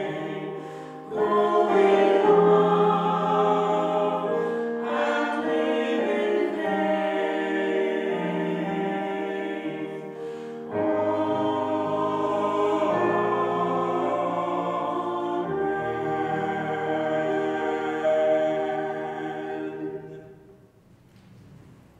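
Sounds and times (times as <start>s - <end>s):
slow sacred choral music: 0.0s - 21.9s.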